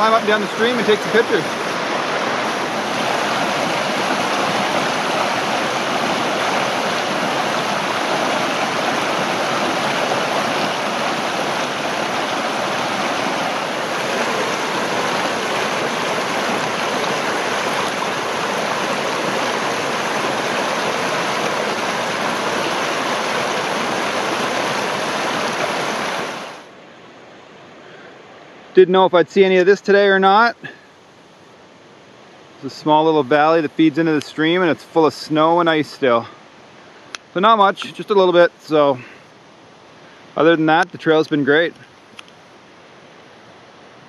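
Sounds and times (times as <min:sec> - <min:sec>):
stream rushing over rocks: 0:00.0 - 0:30.9, 0:31.5 - 0:44.0.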